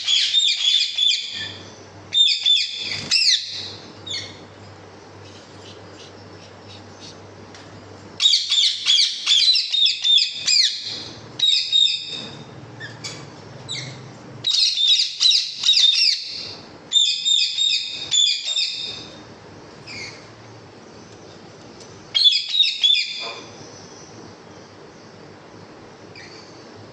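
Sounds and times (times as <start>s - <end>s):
small birds chirping: 0.0s - 26.8s
faint steady hum: 0.0s - 26.9s.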